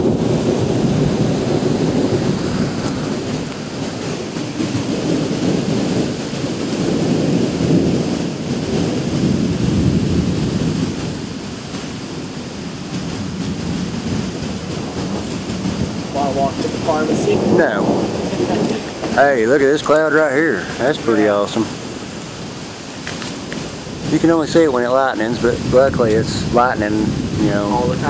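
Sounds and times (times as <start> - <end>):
thunder rolling: 0.0 - 28.0
wind: 0.0 - 28.0.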